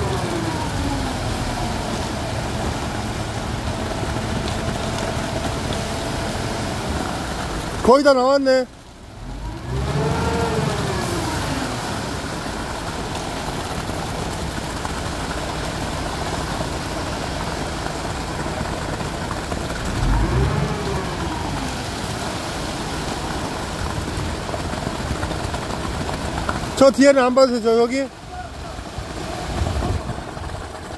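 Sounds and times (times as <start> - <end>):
engine running and revving: 0.0 - 7.8, 9.0 - 26.8, 28.8 - 30.9.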